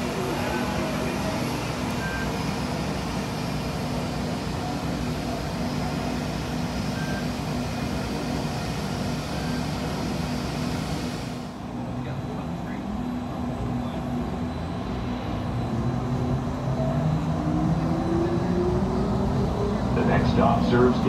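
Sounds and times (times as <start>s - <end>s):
ground service vehicles: 0.0s - 21.0s
jet aircraft drone: 0.0s - 21.0s.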